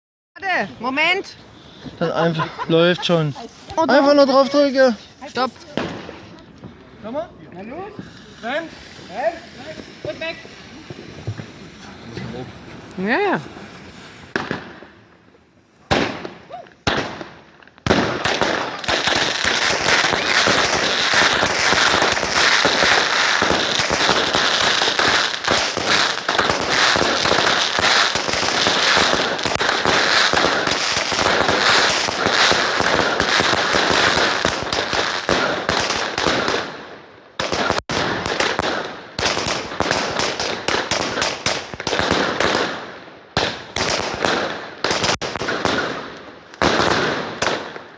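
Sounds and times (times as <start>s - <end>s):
fireworks crackling bangs: 0.8s - 47.9s.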